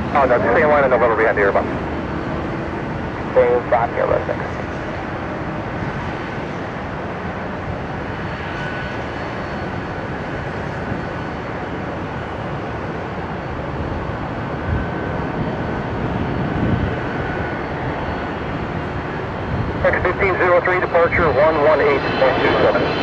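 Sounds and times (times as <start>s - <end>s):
jet engines rushing rumble: 0.0s - 23.0s.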